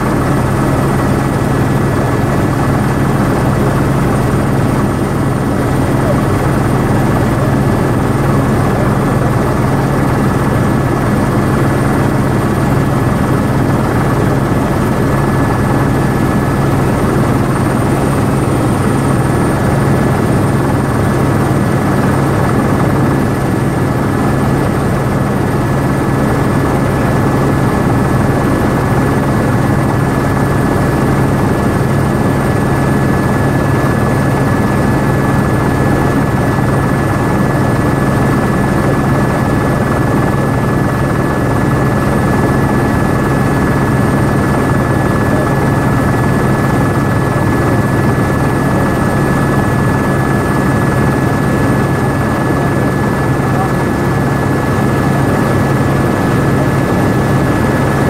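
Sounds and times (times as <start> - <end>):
helicopter rotor and engine drone: 0.0 - 58.0.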